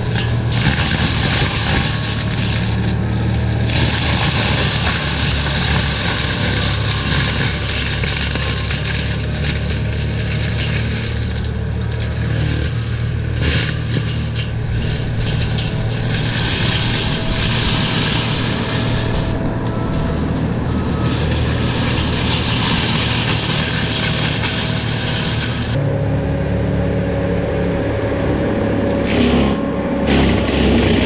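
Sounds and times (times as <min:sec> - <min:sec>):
mulcher grinding brush: 0:00.0 - 0:25.8, 0:27.6 - 0:31.0
engine drone: 0:00.0 - 0:31.0.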